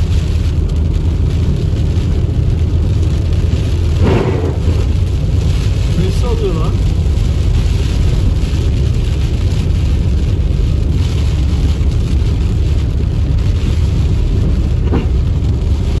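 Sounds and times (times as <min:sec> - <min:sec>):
car road and engine rumble: 0:00.0 - 0:16.0
rain on windshield: 0:00.0 - 0:16.0.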